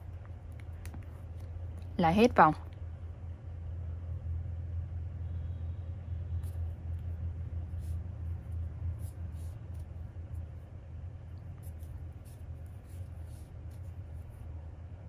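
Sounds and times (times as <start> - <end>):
room background hum: 0.0 - 15.0.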